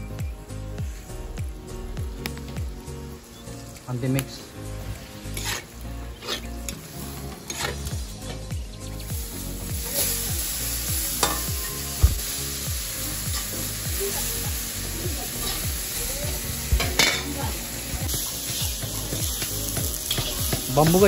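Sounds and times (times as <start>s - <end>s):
tomatoes sizzling in hot oil: 0.1s - 21.0s.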